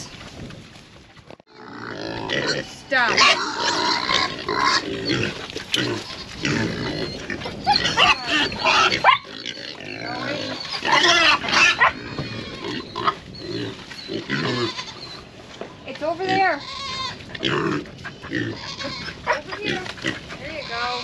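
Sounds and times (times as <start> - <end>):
pigs grunting and squealing: 1.5 - 15.3, 16.0 - 21.0.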